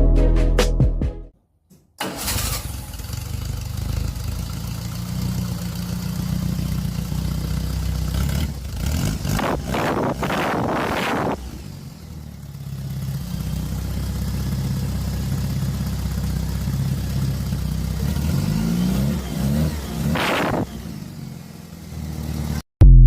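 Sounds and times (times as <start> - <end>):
car engine running and revving: 3.0 - 22.6.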